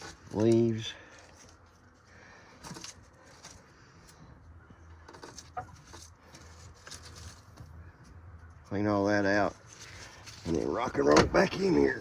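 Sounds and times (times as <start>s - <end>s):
leaves rustling and clicking: 0.0s - 4.2s, 5.0s - 12.0s.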